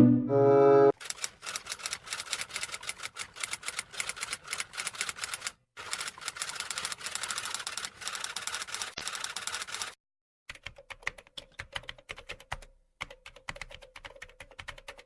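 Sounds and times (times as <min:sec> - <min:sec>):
fast keyboard typing: 0:01.0 - 0:15.0.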